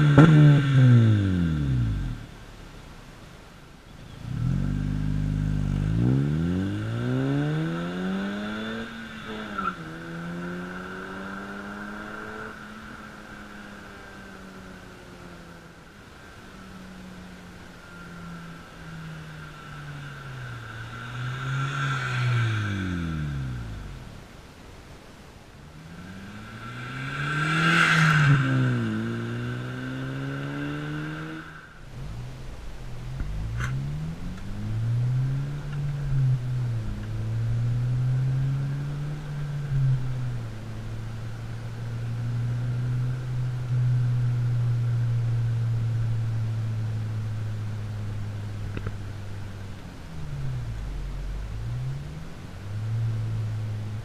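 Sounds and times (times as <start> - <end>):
car driving past: 4.1 - 14.8, 16.5 - 24.2, 25.7 - 54.0.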